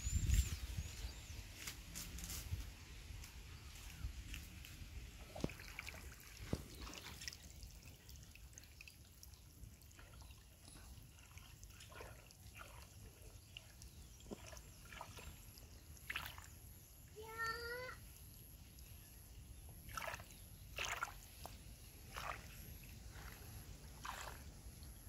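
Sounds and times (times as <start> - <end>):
water trickling and sloshing: 3.2 - 25.0.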